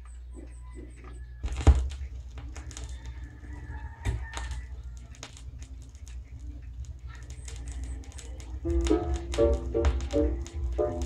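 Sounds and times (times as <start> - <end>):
stylus crackle: 1.4 - 11.0
mechanical clicks: 1.5 - 11.0.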